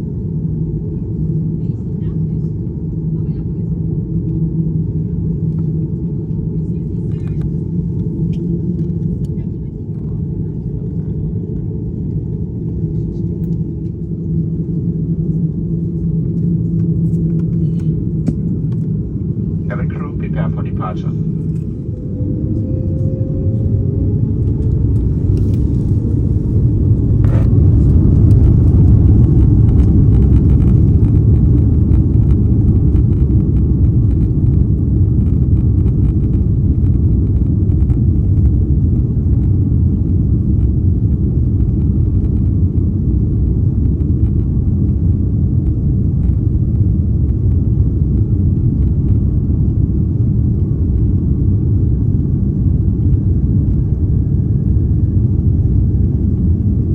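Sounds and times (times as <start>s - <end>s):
jet engines rumbling: 0.0s - 56.9s.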